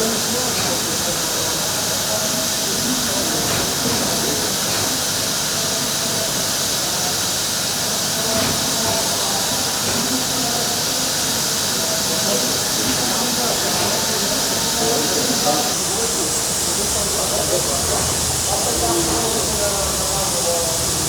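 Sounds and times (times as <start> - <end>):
steam locomotive hissing steam: 0.0 - 21.0.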